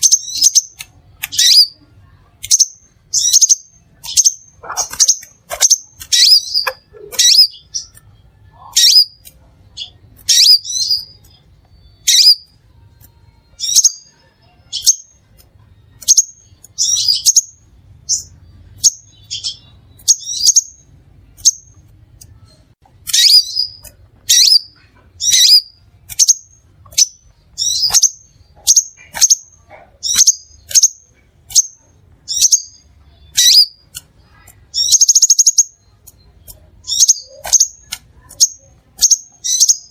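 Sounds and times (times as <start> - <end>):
bird high sharp chirps: 0.0 - 1.8, 2.4 - 12.6, 13.5 - 15.2, 16.0 - 39.9.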